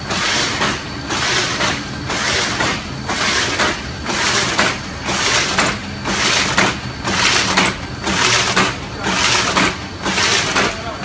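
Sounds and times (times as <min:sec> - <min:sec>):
die-cutting press clattering: 0:00.1 - 0:11.0.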